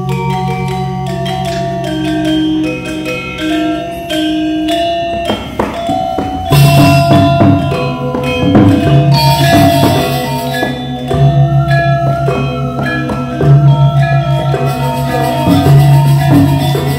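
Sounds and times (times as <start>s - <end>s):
metallophones struck with mallets: 0.0s - 16.9s.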